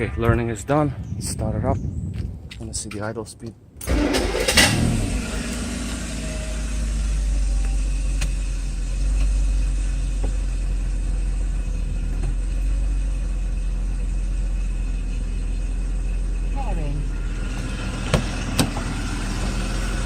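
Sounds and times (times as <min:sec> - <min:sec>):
car engine idling: 0:03.9 - 0:20.0.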